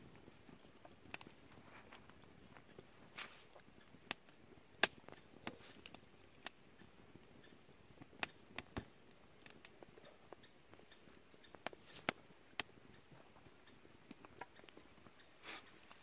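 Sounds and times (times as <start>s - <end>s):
faint fire hiss: 0.0s - 16.0s
wood fire crackling: 0.0s - 16.0s.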